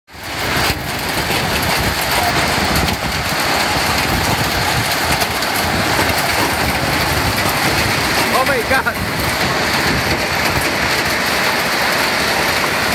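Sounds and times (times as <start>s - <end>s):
hail and rain on wet pavement: 0.1s - 12.9s.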